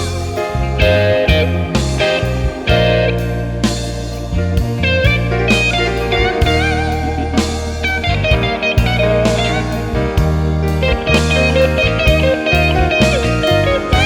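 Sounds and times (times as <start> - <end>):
bass and drums: 0.0 - 14.0
electric guitar solo: 0.0 - 14.0.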